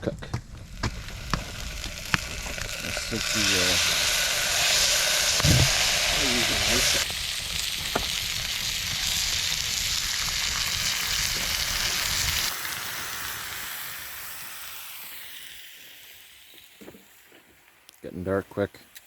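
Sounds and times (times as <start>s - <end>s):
meat sizzling in a pan: 0.5s - 19.0s.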